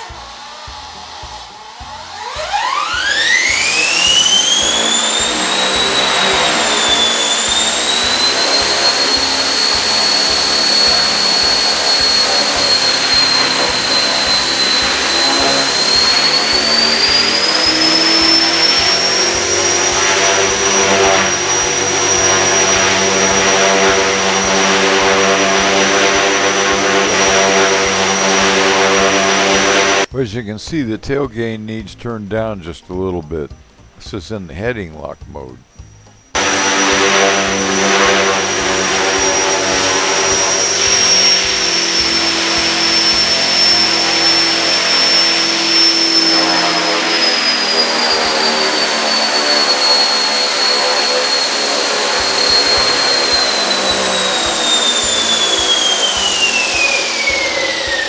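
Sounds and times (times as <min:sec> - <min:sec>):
rc helicopter motor and rotor whine: 0:00.0 - 0:30.1, 0:36.4 - 0:58.0.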